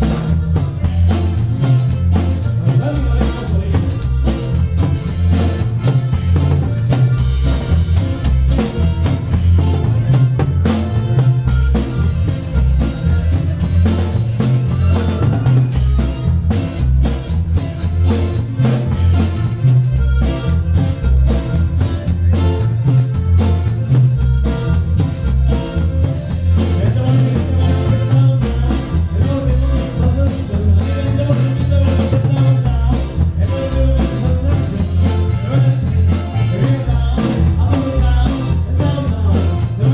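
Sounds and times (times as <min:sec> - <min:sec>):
drums: 0:00.0 - 0:39.9
pulsing bass line: 0:00.0 - 0:39.9.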